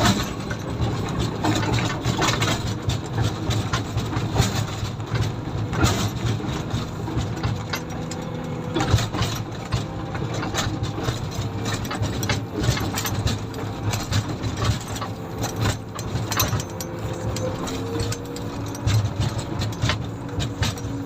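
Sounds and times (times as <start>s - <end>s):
clanks and rattles: 0.0s - 21.0s
diesel engine running: 0.0s - 21.0s.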